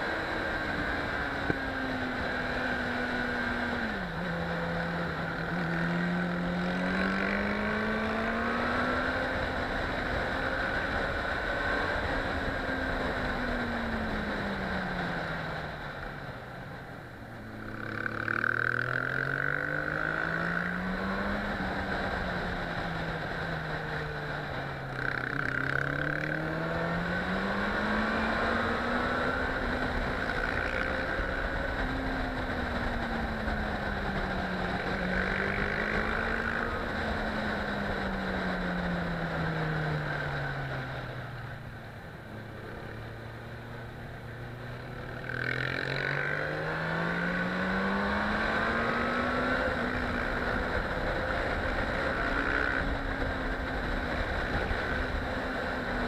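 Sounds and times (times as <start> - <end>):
motorcycle engine revving: 0.0 - 16.4, 17.3 - 56.0.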